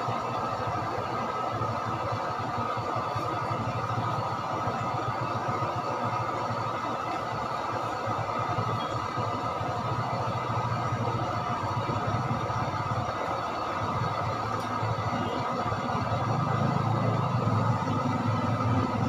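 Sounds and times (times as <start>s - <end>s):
engine-like low rumble: 0.0s - 19.0s.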